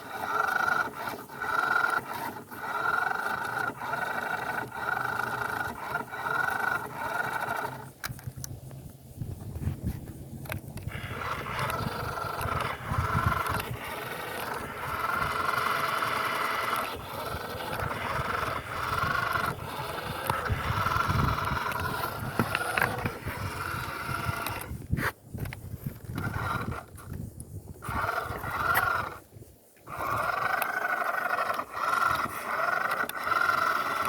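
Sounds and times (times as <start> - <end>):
toy car electric motor whining: 0.0 - 8.5, 10.4 - 34.0
wheels spinning in sand: 0.0 - 34.0.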